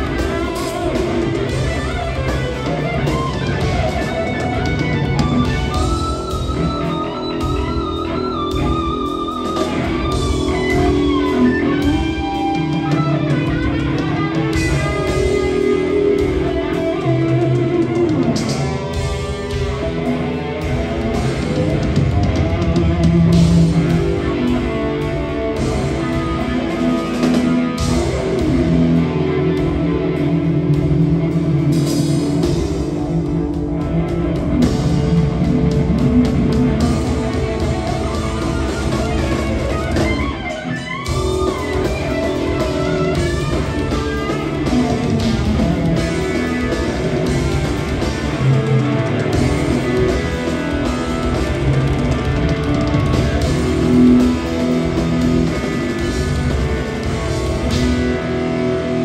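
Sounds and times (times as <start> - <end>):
electric guitar with vibrato: 0.0 - 59.0
rock band playing live: 0.0 - 59.0.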